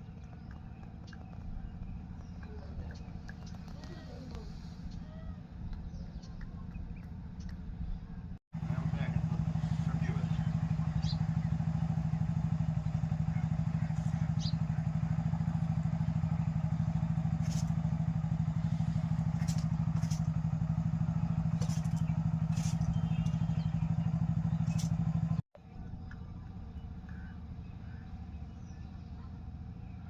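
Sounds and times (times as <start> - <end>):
engine running steadily: 0.0 - 30.0
outdoor background: 0.0 - 30.0.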